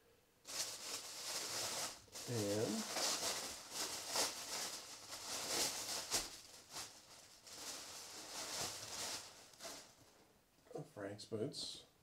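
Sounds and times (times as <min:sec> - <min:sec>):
tissue paper rustling: 0:00.4 - 0:10.2.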